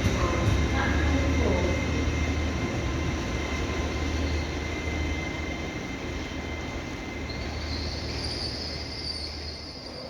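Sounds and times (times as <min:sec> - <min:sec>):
train rumbling past: 0:00.0 - 0:10.0.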